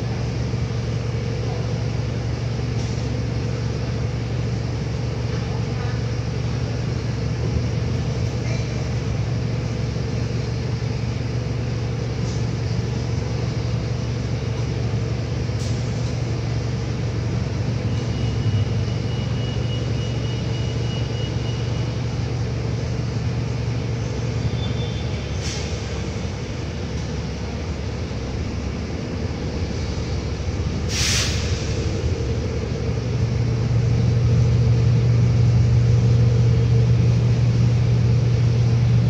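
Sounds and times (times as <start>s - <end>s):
bus engine idling: 0.0s - 39.0s.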